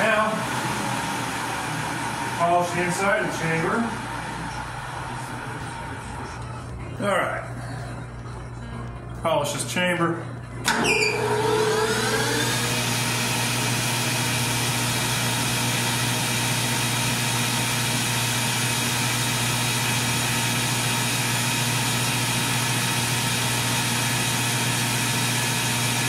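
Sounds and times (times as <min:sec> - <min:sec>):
metal lathe running: 0:00.0 - 0:07.4, 0:10.6 - 0:26.0.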